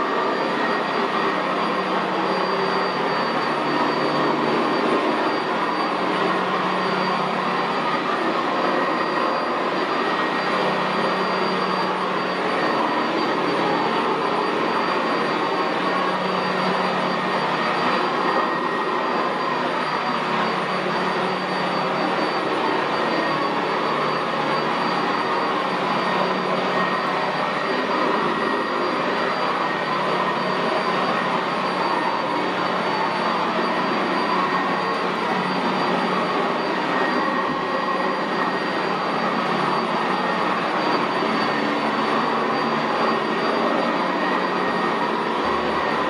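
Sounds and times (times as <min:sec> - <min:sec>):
upright vacuum running on carpet: 0:00.0 - 0:46.0.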